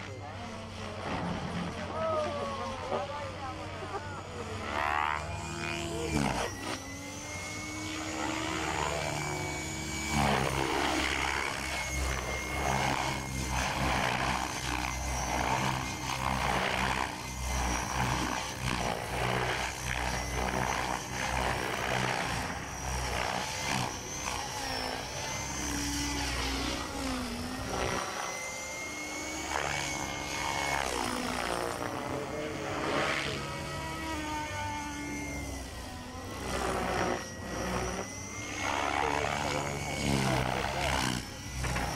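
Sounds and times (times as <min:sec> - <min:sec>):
model helicopter motor whine: 0:00.0 - 0:41.9.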